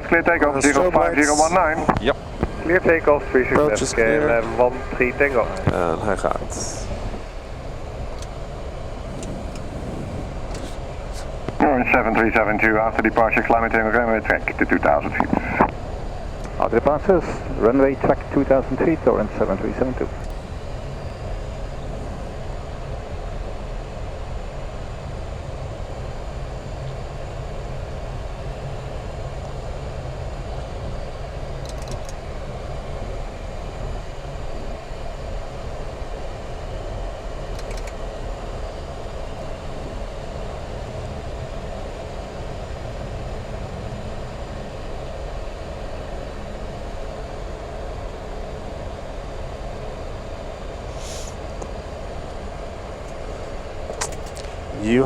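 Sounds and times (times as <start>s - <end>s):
aircraft engines idling hum: 0.0s - 55.0s.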